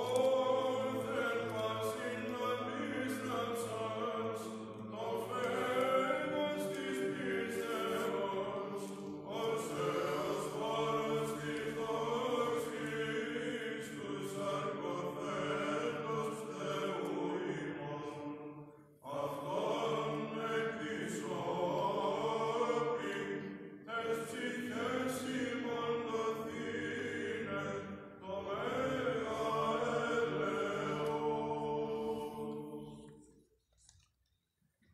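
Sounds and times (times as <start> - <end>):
men's choir chanting: 0.0 - 33.2.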